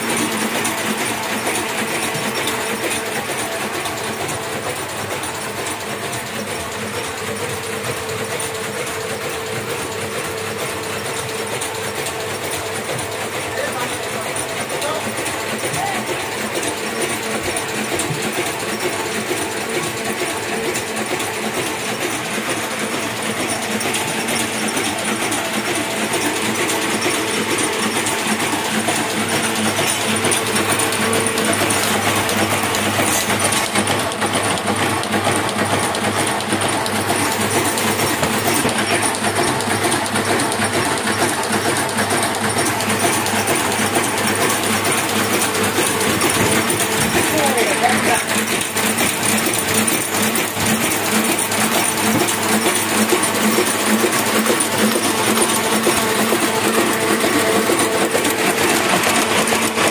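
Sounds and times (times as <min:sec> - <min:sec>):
printing press clattering: 0:00.0 - 0:59.9.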